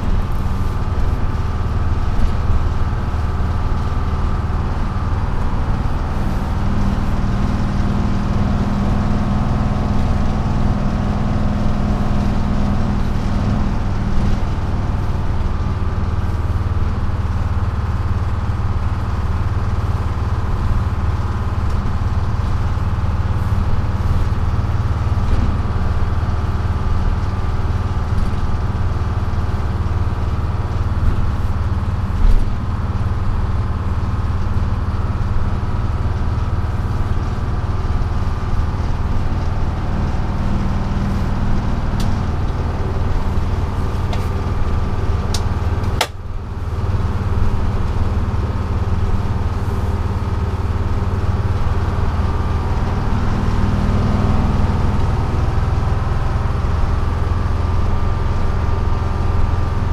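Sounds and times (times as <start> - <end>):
diesel bus engine droning: 0.0 - 59.9
road noise: 0.0 - 59.9.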